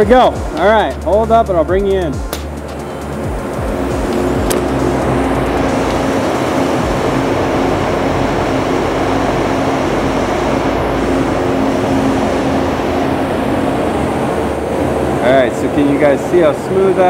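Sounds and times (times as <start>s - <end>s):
rush of ventilation air: 0.0s - 17.0s.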